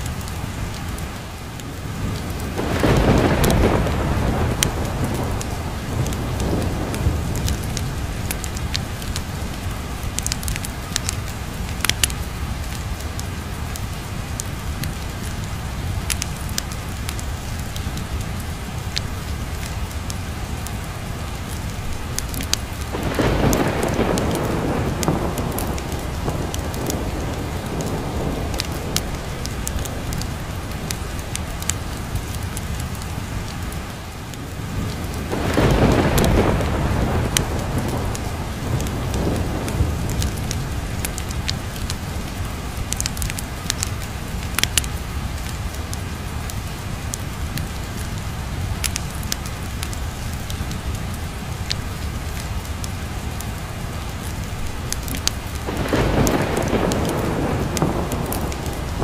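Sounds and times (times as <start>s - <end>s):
heavy rain: 0.0s - 59.0s
sharp crackles: 0.0s - 59.0s
thunder rumbling: 1.6s - 53.4s, 54.0s - 59.0s.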